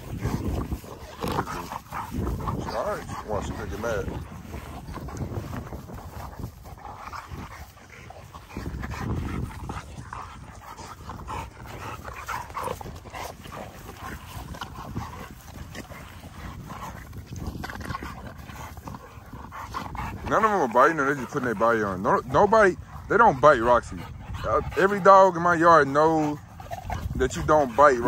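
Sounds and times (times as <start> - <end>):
dogs making vocal noises: 0.0 - 28.0
dogs scuffling: 0.0 - 28.0.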